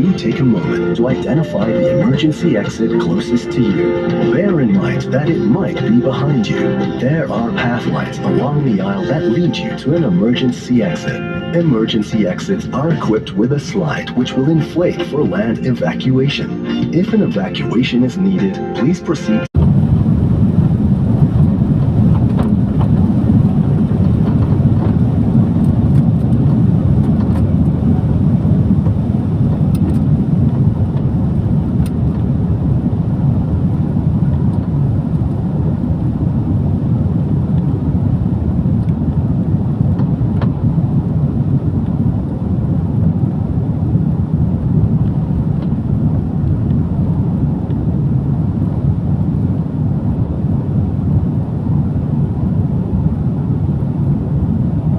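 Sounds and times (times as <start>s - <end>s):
jet engines rumbling in cabin: 0.0s - 54.9s.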